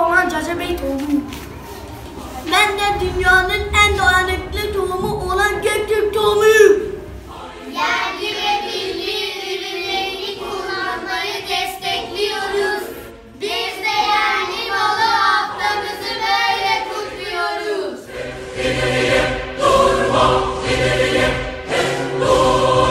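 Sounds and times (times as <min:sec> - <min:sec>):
recorded choral music: 0:01.5 - 0:22.9
children singing unaccompanied: 0:01.6 - 0:22.9.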